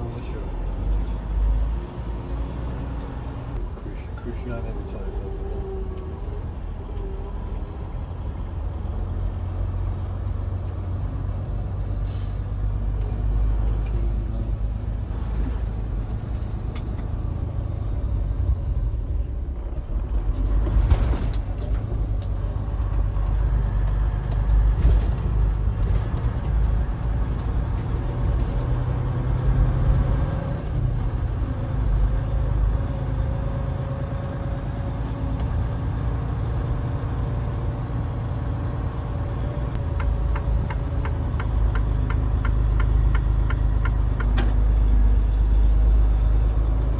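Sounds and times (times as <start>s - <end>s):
truck engine and road rumble: 0.0s - 46.9s.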